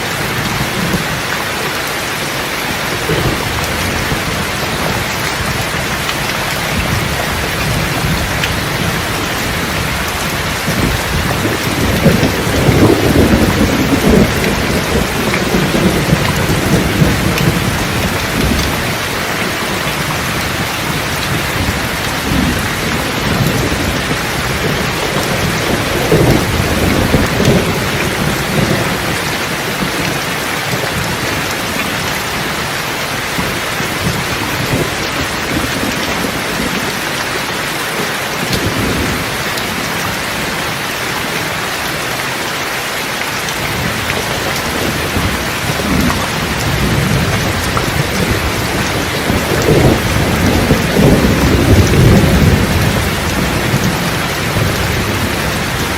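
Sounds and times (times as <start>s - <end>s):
thunder rumbling: 0.0s - 41.4s, 43.6s - 55.9s
steady rain falling: 0.0s - 55.9s.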